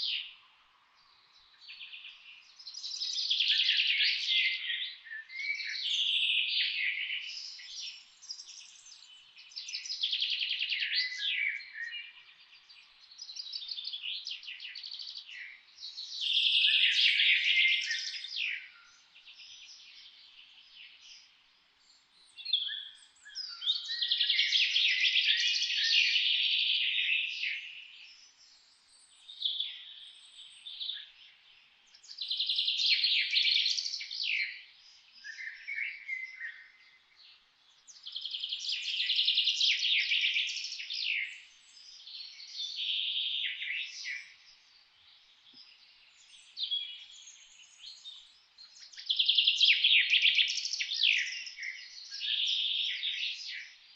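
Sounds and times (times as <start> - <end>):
songbirds trilling: 0.0 - 53.9.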